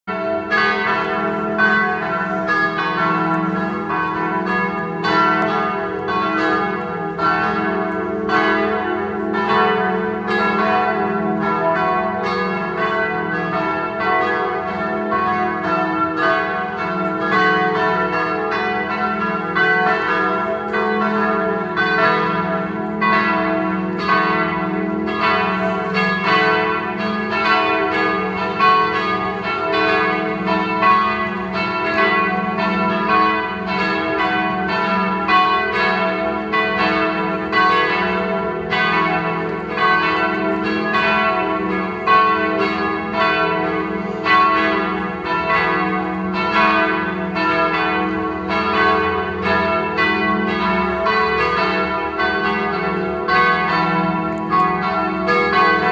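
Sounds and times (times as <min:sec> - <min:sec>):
church bells pealing: 0:00.0 - 0:55.9.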